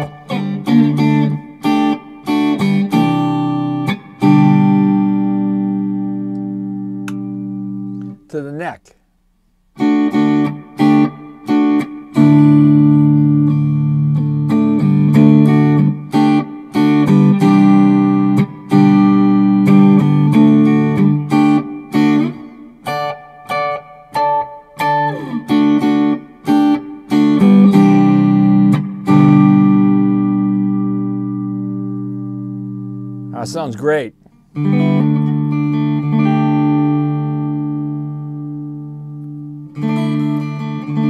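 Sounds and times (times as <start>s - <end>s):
clean electric guitar: 0.0s - 9.0s, 9.8s - 41.0s.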